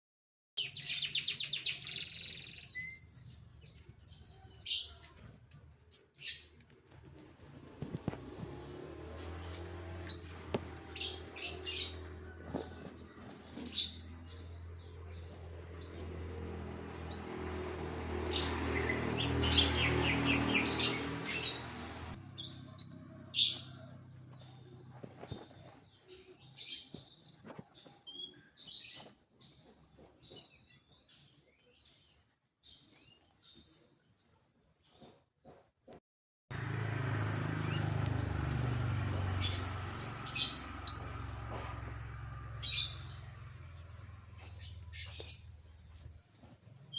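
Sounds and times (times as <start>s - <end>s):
canary chirping and trilling: 0.6s - 5.3s, 7.8s - 35.1s, 37.5s - 46.9s.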